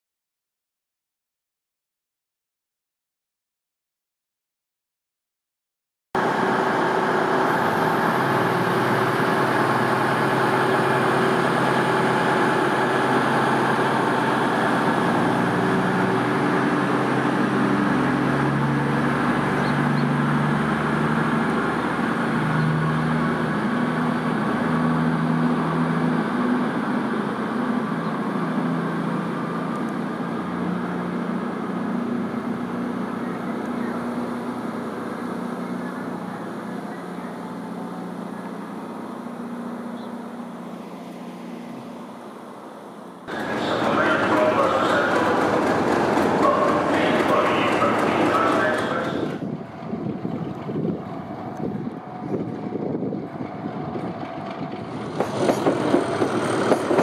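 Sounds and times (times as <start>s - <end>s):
diesel train engine drone: 6.2s - 57.0s.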